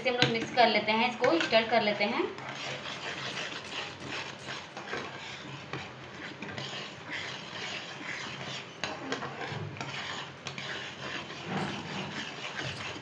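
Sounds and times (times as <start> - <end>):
wooden spatula scraping metal pan: 0.0 - 13.0.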